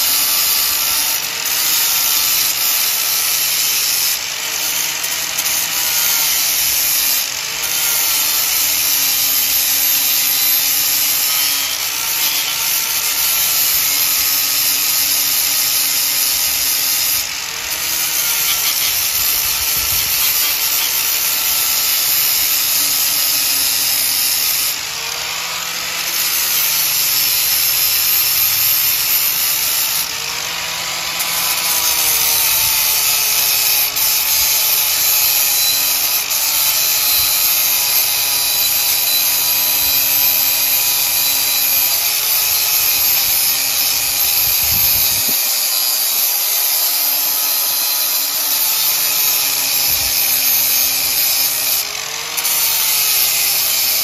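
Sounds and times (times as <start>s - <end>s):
angle grinder grinding steel: 0.0s - 54.0s.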